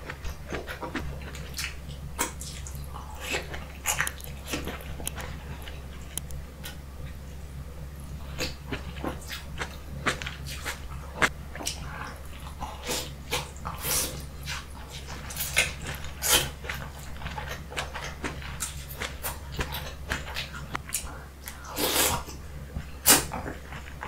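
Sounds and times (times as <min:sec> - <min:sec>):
chewing: 0:00.0 - 0:07.3, 0:08.1 - 0:24.0.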